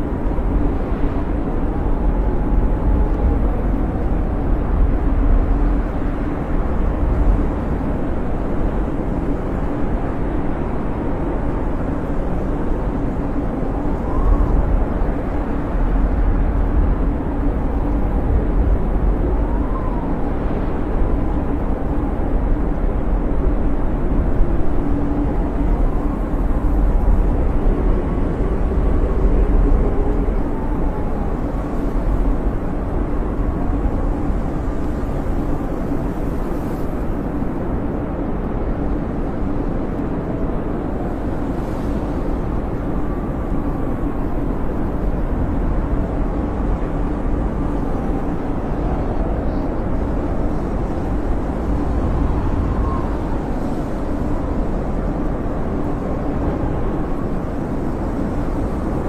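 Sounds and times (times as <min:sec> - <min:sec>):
blizzard wind howling: 0:00.0 - 0:59.0.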